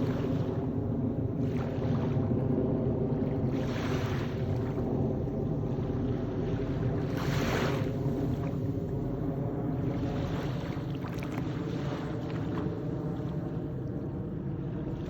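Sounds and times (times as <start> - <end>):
airplane engine droning: 0.0 - 15.0
small waves washing ashore: 0.0 - 15.0.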